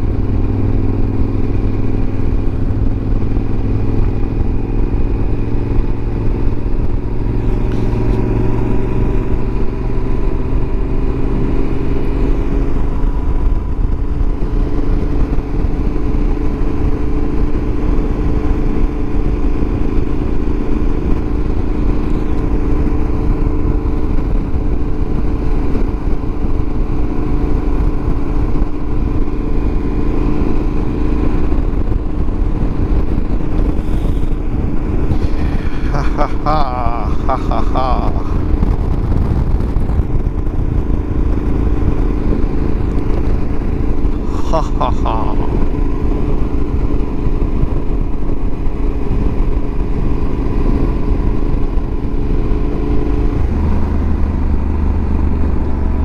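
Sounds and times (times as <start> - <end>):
motorcycle engine cruising: 0.0 - 56.0
wind rumble on microphone: 0.0 - 56.0.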